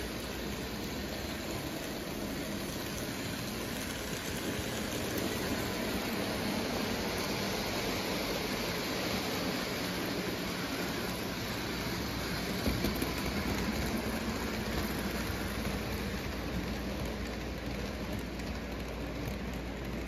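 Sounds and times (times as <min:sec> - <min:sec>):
model trains rolling on track: 0:00.0 - 0:20.0.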